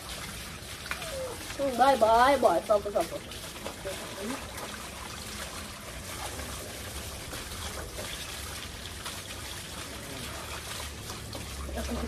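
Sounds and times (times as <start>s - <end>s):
water from hose splashing: 0.0s - 12.0s
water trickling onto wet concrete: 0.0s - 12.0s.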